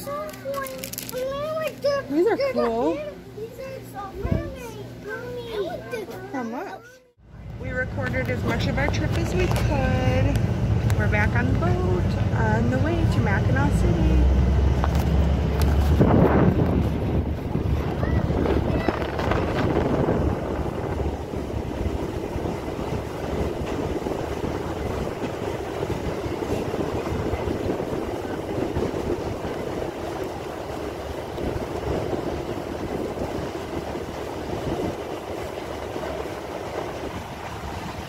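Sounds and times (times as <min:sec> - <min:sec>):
ferry engines droning: 0:00.0 - 0:38.0.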